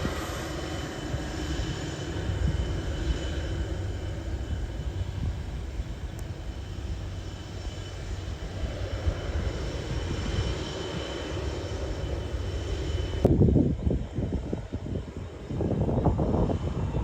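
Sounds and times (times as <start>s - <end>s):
turbine engine whine and rumble: 0.0s - 17.0s.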